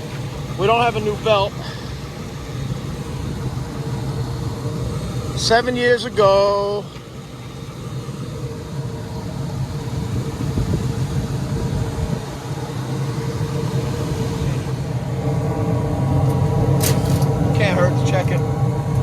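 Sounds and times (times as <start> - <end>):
heating unit blower humming: 0.0 - 19.0.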